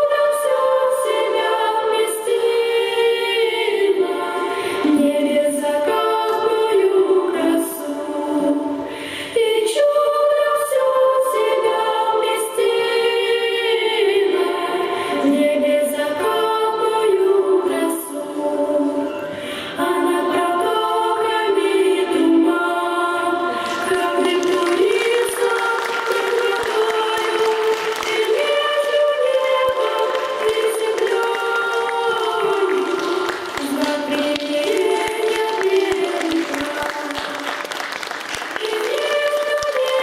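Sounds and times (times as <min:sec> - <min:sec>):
choir singing: 0:00.0 - 0:40.0.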